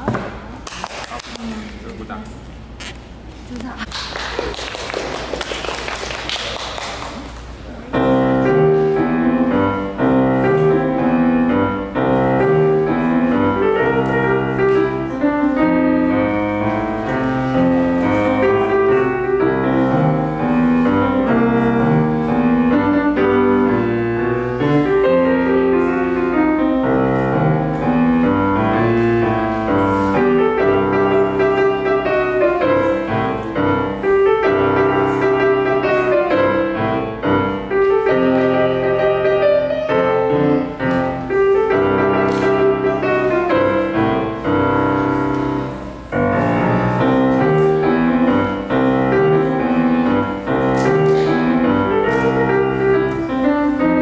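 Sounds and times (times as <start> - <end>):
grand piano piece: 0.0 - 54.0.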